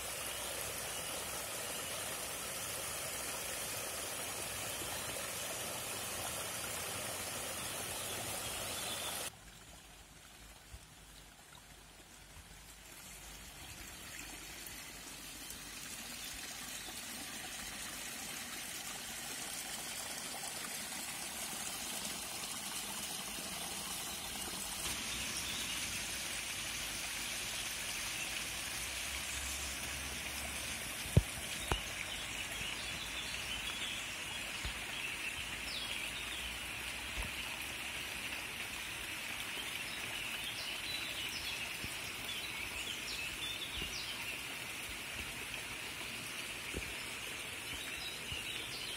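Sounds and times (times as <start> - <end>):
stream water rushing: 0.0 - 11.0, 11.8 - 48.9.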